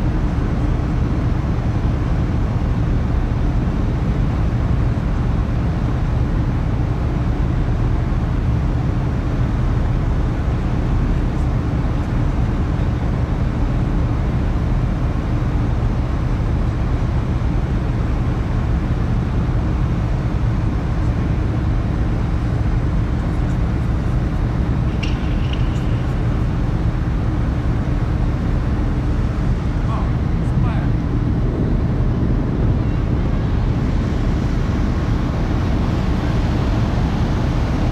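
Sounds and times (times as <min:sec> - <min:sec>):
faint constant hum: 0:00.0 - 0:37.9
rush of wind and water: 0:00.0 - 0:37.9
ship engine rumble: 0:00.0 - 0:37.9.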